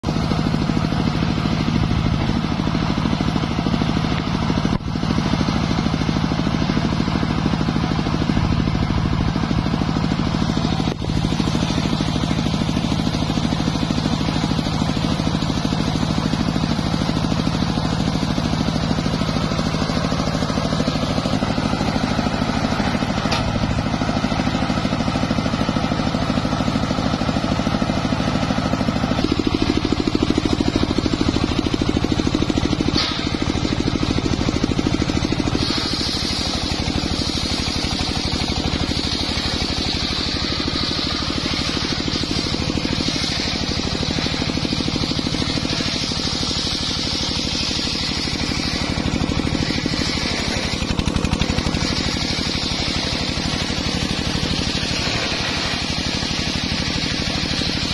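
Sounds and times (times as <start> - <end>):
sawmill engine humming: 0.0 - 57.9.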